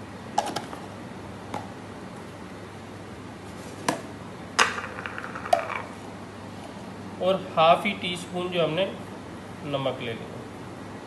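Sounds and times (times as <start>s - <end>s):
faint room noise hiss: 0.0s - 11.0s.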